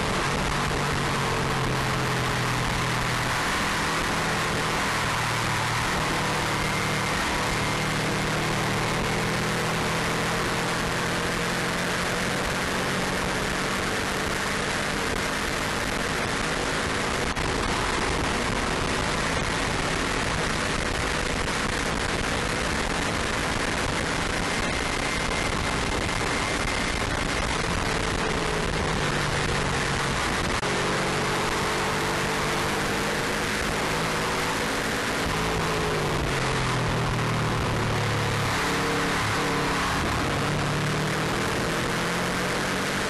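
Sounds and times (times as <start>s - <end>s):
car engine at speed: 0.0s - 43.0s
wind and road noise: 0.0s - 43.0s.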